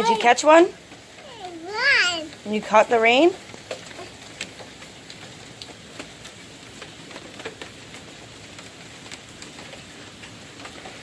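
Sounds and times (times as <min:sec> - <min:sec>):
raindrops pattering on surfaces: 0:00.0 - 0:11.0
steady rain hiss: 0:00.0 - 0:11.0.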